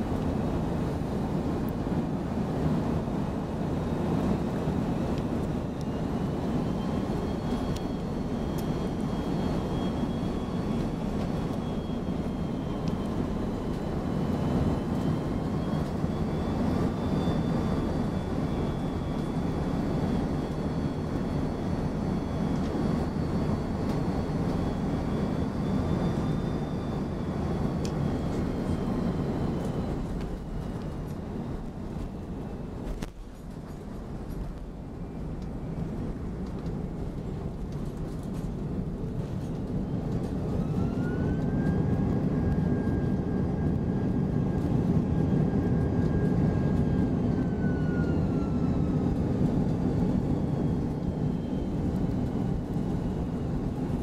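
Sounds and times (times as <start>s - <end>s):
airliner cabin engine rumble: 0.0s - 54.0s
rising whine: 0.0s - 54.0s.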